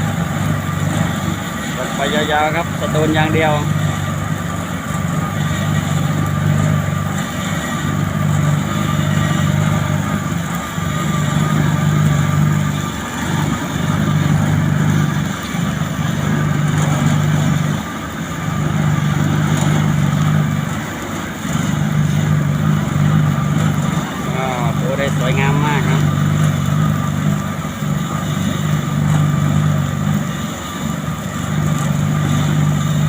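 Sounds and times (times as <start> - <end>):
faint steady whine: 0.0 - 33.0
paving machine engine running: 0.0 - 33.0.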